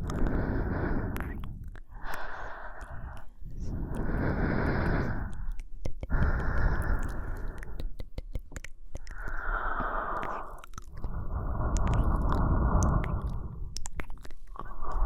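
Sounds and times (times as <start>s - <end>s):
woman breathing slowly: 0.0s - 8.1s, 8.9s - 15.0s
mouth clicks: 0.0s - 15.0s.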